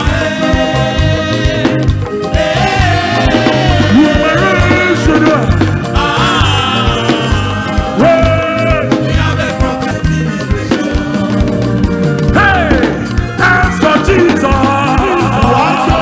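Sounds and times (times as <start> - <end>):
upbeat dance music: 0.0 - 16.0.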